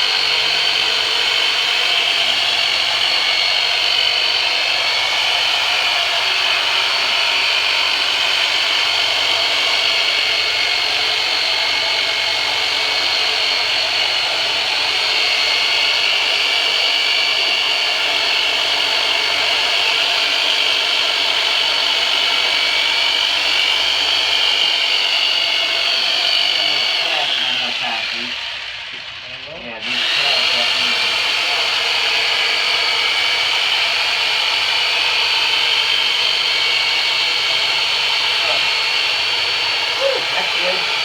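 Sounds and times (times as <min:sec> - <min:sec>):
electric massager whirring: 0:00.0 - 0:41.0.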